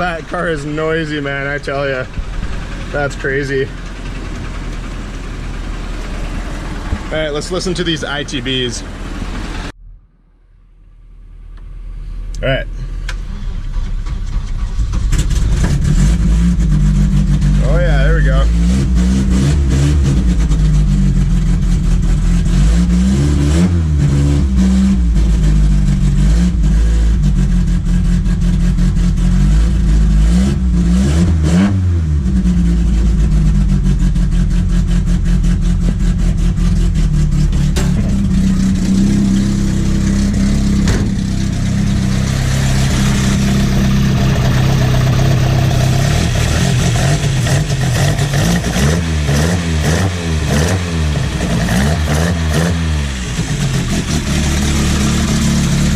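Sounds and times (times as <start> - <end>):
car engine revving: 0.0 - 9.8, 14.2 - 55.9.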